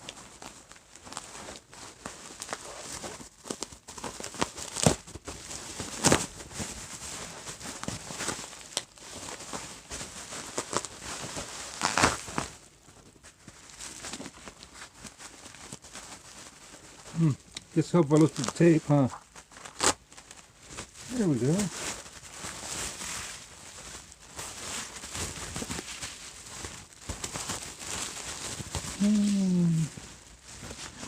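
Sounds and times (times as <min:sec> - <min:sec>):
packaging crinkling and rustling: 0:00.0 - 0:31.0.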